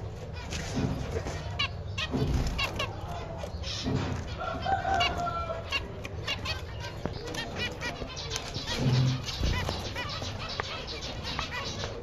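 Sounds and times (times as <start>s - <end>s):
finches chirping: 1.3s - 12.0s.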